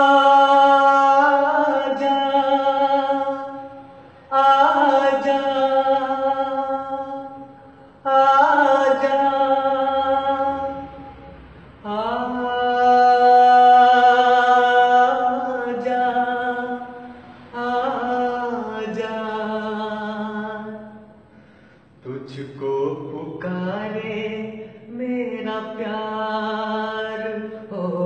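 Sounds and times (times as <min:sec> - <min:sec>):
young man singing unaccompanied: 0:00.0 - 0:21.1, 0:22.0 - 0:28.0.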